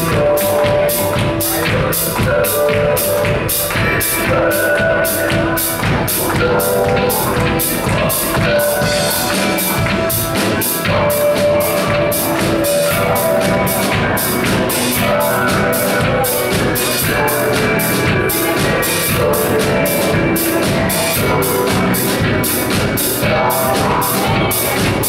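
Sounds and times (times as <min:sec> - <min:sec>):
bass notes: 0:00.0 - 0:25.0
drum kit beat: 0:00.0 - 0:25.0
electric guitar: 0:00.0 - 0:25.0
keyboard notes: 0:00.0 - 0:25.0.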